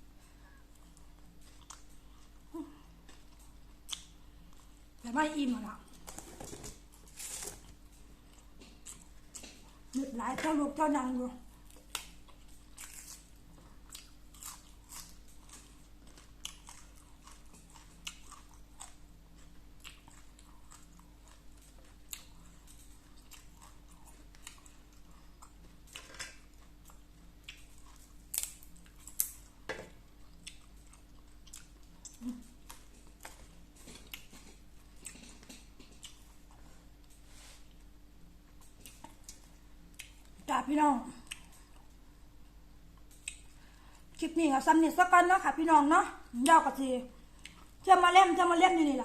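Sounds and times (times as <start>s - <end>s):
person chewing food: 0.1s - 5.0s, 5.9s - 10.0s, 11.5s - 40.4s, 41.2s - 44.2s, 47.2s - 47.9s.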